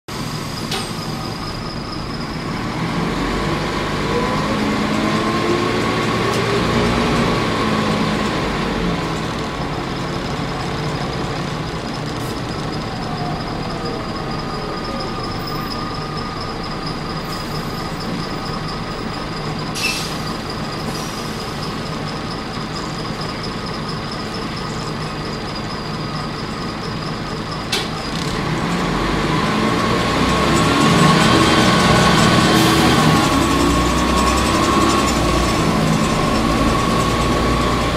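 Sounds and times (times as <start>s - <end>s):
bus engine accelerating: 0.1s - 37.9s
high engine whine: 0.1s - 37.9s.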